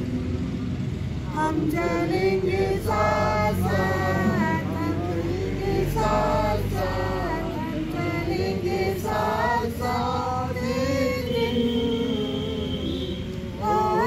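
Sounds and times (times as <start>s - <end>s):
group singing together: 1.2s - 14.0s.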